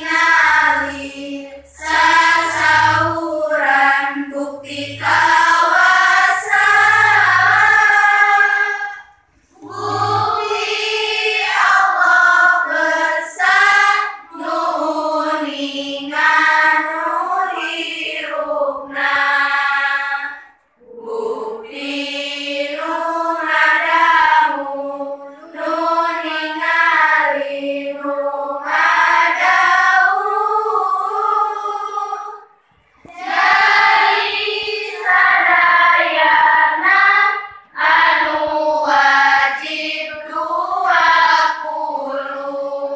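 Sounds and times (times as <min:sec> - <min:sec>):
girls chanting in unison: 0:00.0 - 0:42.9.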